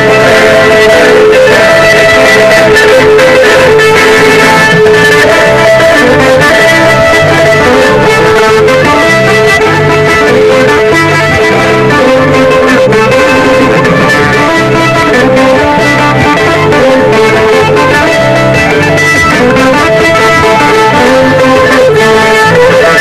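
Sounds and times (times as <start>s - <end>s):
live folk band with guitars: 0.0s - 23.0s.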